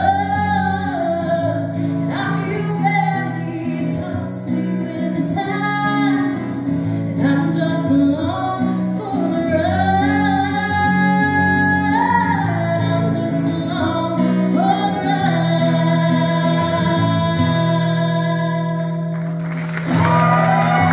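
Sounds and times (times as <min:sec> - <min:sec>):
acoustic guitar: 0:00.0 - 0:20.9
woman singing country song: 0:00.0 - 0:20.9.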